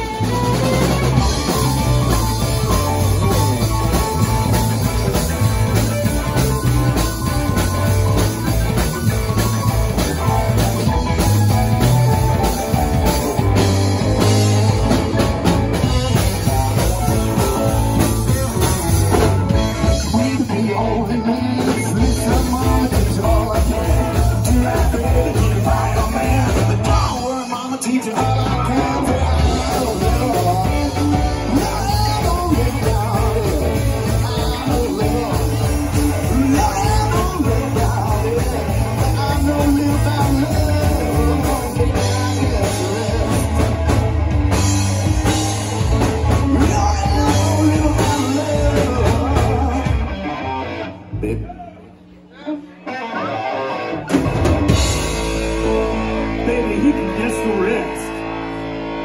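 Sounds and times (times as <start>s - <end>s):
drum kit: 0.0s - 50.3s, 54.0s - 57.9s
person singing: 0.0s - 58.4s
electric guitars: 0.0s - 59.0s
keyboard: 0.0s - 59.0s.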